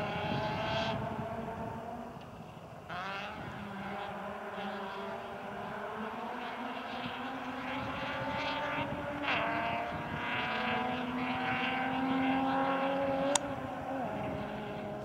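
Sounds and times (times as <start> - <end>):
distant rally car accelerating: 0.0 - 15.0.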